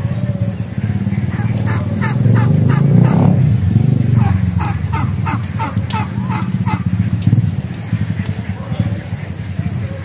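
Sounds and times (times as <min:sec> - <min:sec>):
sharp crackles: 0:00.6 - 0:10.0.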